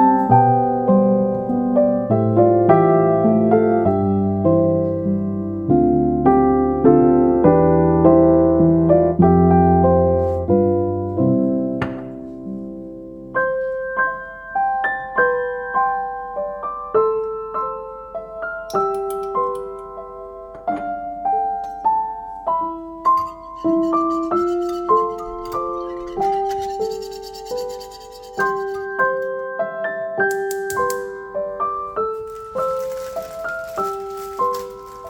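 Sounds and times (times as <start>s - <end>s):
solo piano music: 0.0s - 35.0s.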